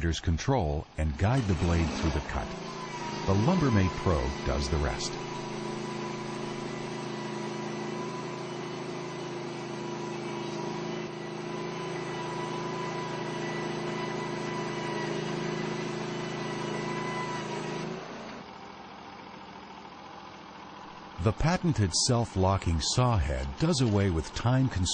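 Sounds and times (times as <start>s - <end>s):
band sawmill sawing log: 0.8s - 18.5s, 21.2s - 24.9s.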